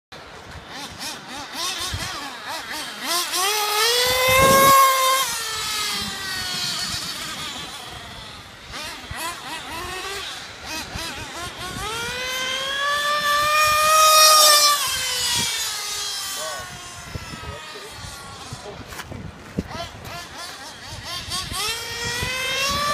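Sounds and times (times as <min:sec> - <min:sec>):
model engine revving whine: 0:00.2 - 0:22.9.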